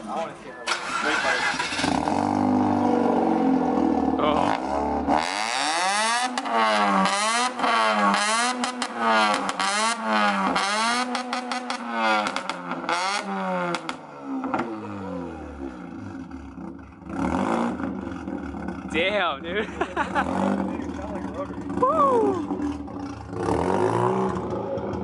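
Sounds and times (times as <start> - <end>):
rotary engine revving: 0.7 - 25.0.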